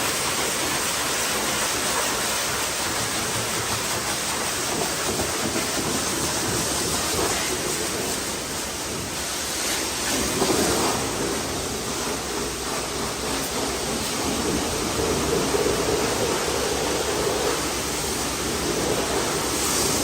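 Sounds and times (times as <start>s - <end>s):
water jet spraying on car: 0.0s - 20.0s.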